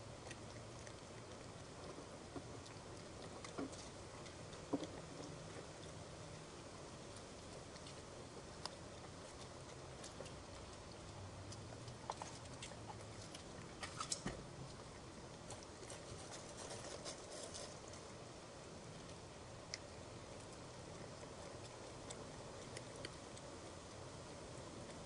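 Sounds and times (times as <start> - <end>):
low hiss: 0.0 - 25.0
raccoon feeding on birdseed: 0.0 - 25.0.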